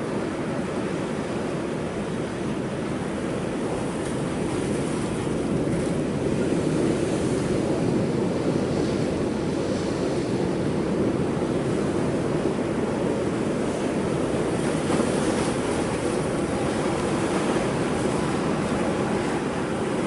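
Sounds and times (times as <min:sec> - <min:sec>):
ocean surf breaking on rocks: 0:00.0 - 0:20.0.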